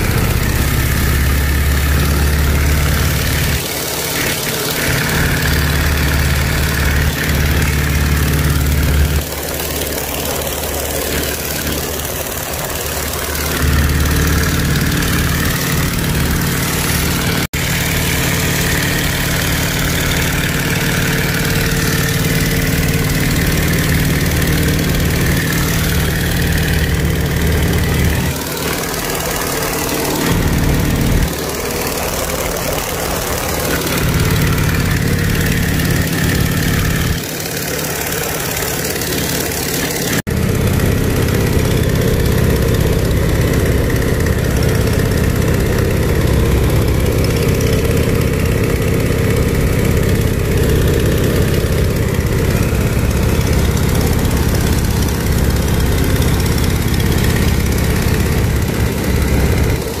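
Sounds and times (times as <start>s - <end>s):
radial engine drone: 0.0s - 60.0s.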